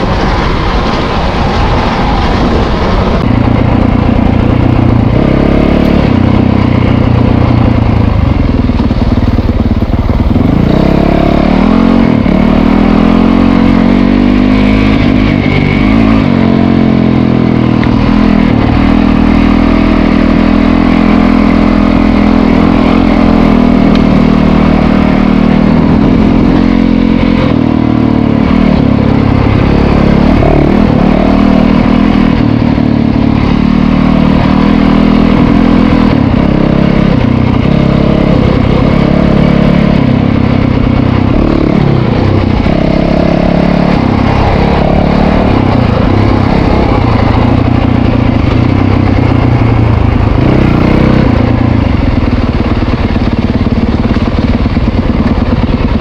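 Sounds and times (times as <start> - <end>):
dirt bike engine revving: 1.7 - 56.0.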